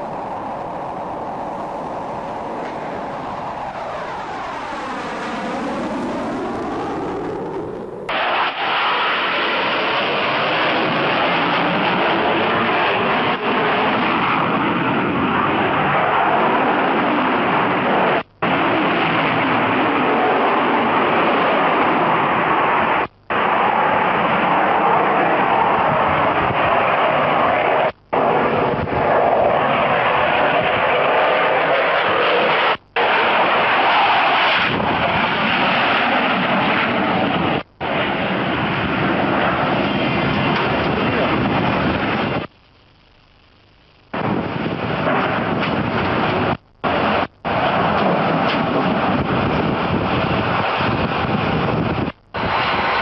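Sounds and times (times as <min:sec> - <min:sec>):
loud steady rushing noise: 0:00.0 - 0:53.0.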